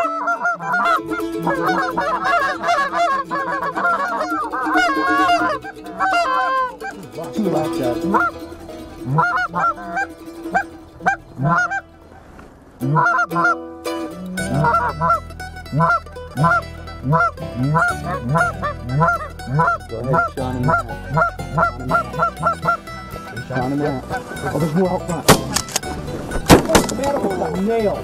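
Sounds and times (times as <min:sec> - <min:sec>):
goose honking and clucking: 0:00.0 - 0:12.2, 0:12.8 - 0:27.6.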